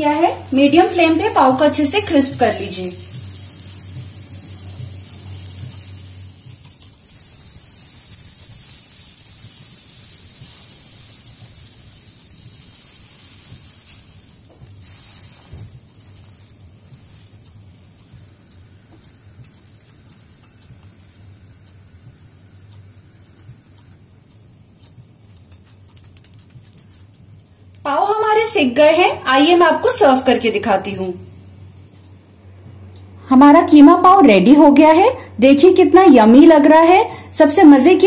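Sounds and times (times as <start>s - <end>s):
butter sizzling frying hiss: 0.0s - 32.3s.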